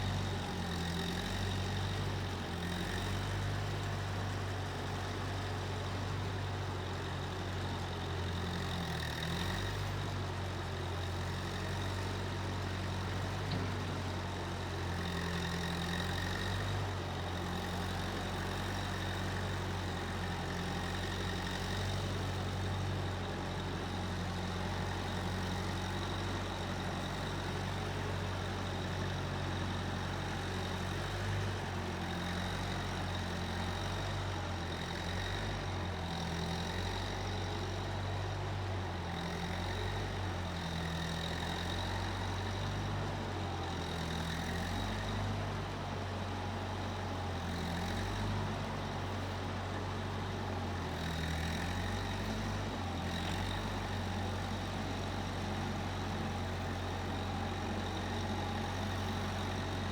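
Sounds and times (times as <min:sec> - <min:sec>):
skid steer engine droning: 0:00.0 - 0:59.9.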